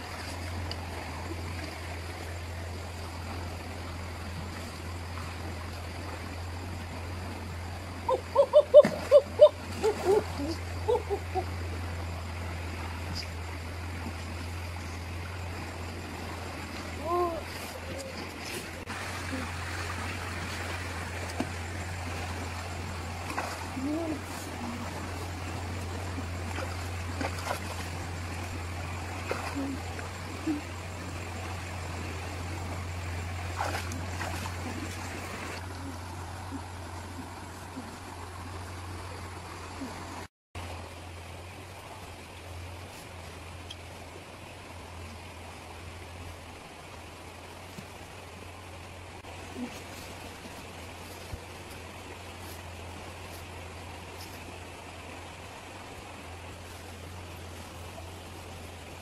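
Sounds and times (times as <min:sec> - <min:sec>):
low hum: 0:00.0 - 0:59.0
stream water over rocks: 0:00.0 - 0:59.0.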